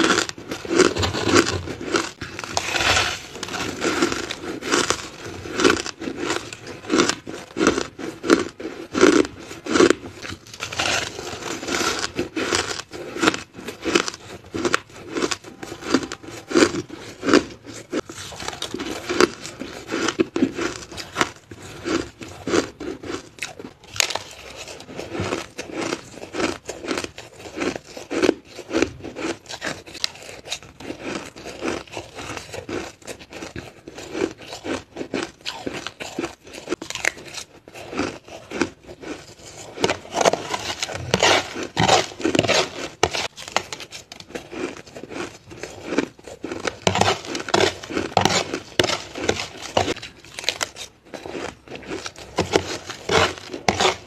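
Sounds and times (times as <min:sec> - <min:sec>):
chewing crushed ice: 0:00.0 - 0:54.0
metal spoon scraping ice: 0:00.0 - 0:54.0.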